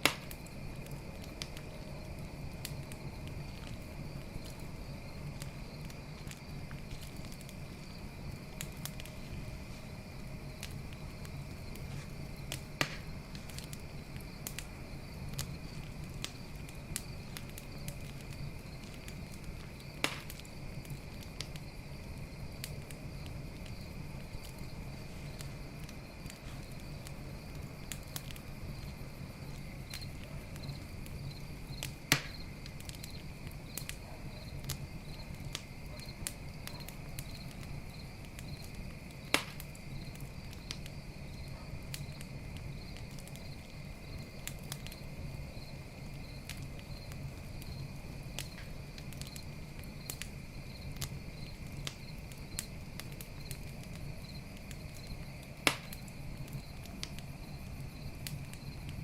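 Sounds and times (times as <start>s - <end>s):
campfire crackling and popping: 0.0s - 59.0s
night insects chirring: 0.0s - 59.0s.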